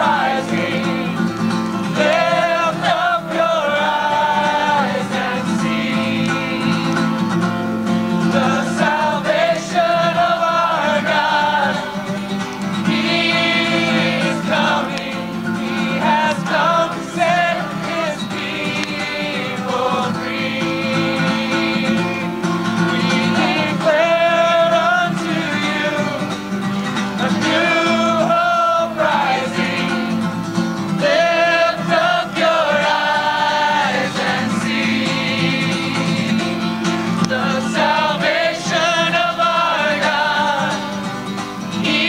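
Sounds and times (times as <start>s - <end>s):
acoustic guitar: 0.0s - 42.0s
people singing worship song: 0.0s - 42.0s.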